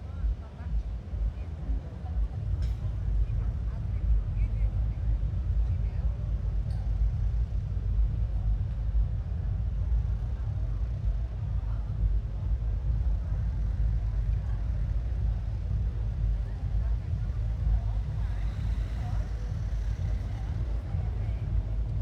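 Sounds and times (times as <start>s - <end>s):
heavy low rumble: 0.0s - 22.0s.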